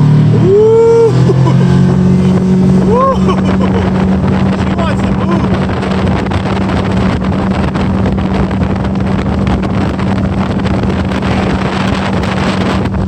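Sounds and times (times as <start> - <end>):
outboard motor running hard: 0.0 - 13.0
wind buffeting microphone: 0.0 - 13.0.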